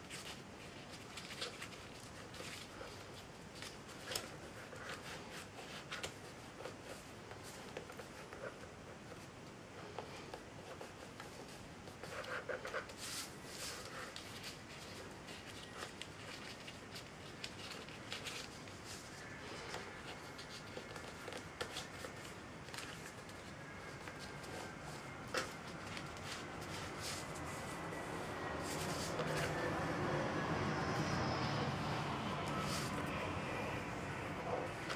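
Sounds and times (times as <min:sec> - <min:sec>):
paper folding and crackling: 0:00.0 - 0:29.7, 0:30.9 - 0:34.9.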